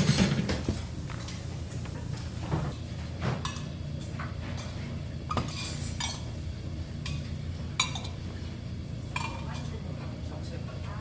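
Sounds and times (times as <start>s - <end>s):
low restaurant hum: 0.0s - 11.0s.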